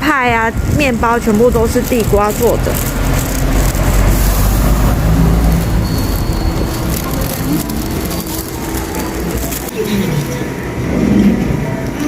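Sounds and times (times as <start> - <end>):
low rumble of traffic: 0.0 - 12.0
faint voices: 0.3 - 12.0.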